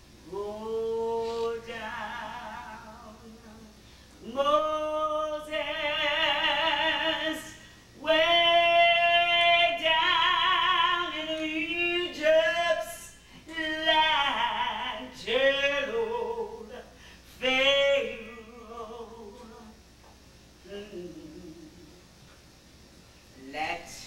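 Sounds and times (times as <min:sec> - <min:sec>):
woman singing unaccompanied: 0:00.0 - 0:19.9, 0:20.6 - 0:22.1.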